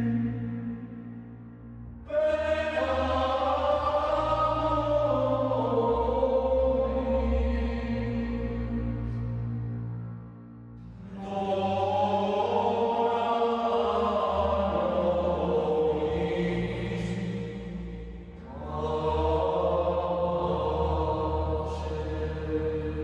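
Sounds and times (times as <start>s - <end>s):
choir singing chant-like phrases: 0.0s - 1.2s, 2.1s - 9.7s, 10.8s - 23.0s.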